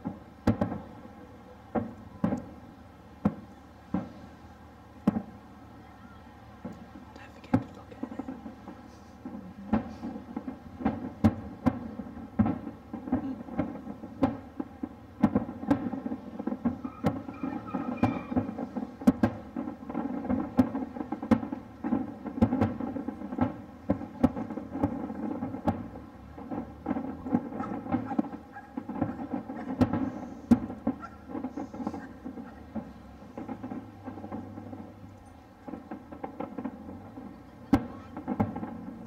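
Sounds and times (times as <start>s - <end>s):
fireworks bangs: 0.0s - 39.0s
rumble of bursting shells: 6.7s - 39.0s.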